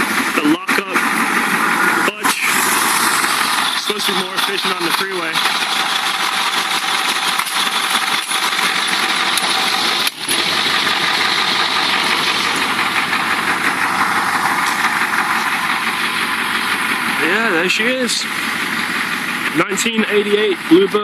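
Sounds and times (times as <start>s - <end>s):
diesel bus engine idling: 0.0s - 21.0s.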